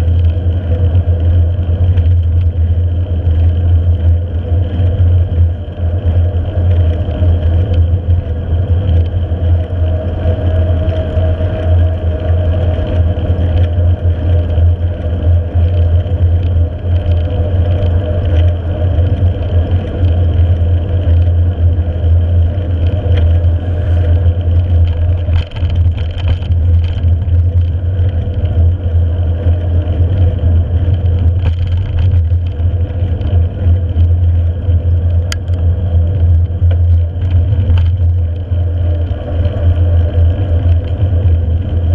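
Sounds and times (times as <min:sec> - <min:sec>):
bike tyres road noise: 0:00.0 - 0:41.9.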